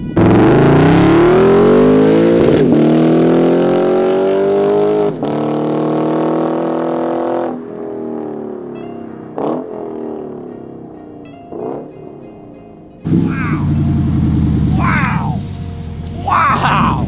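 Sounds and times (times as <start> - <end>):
car engine accelerating: 0.1 - 10.5, 13.0 - 17.0.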